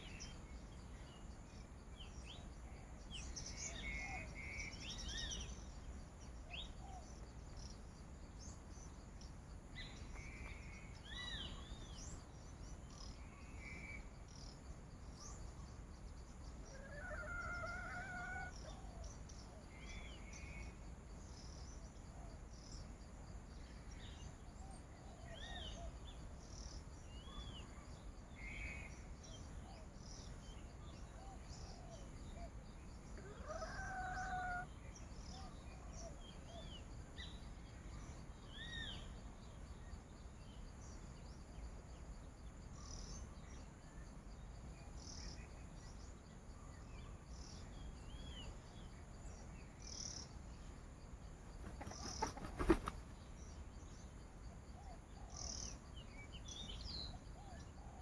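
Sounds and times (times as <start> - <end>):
wild birds chirping: 0.0 - 43.6, 44.4 - 58.0
faint insect hum: 0.0 - 58.0.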